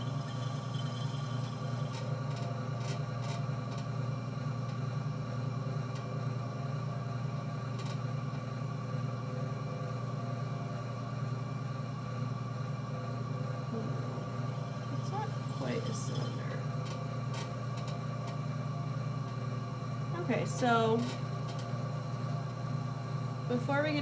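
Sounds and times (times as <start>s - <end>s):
pottery wheel motor humming: 0.0s - 24.0s.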